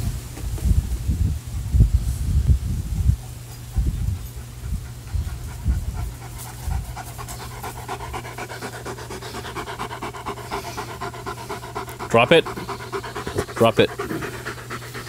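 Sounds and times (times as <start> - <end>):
dog panting: 2.8 - 15.0.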